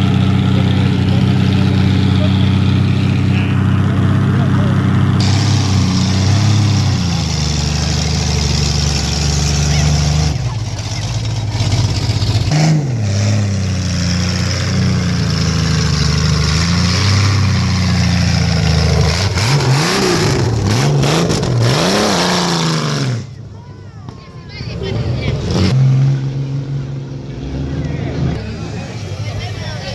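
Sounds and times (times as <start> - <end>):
vehicle engine idling and revving: 0.0 - 29.9.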